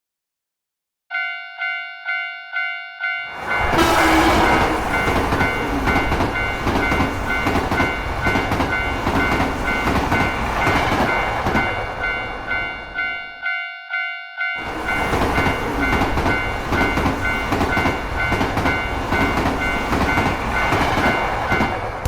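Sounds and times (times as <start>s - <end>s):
railroad crossing bell ringing: 1.1s - 22.0s
train passing with wheel clatter: 3.0s - 13.6s, 14.5s - 22.0s.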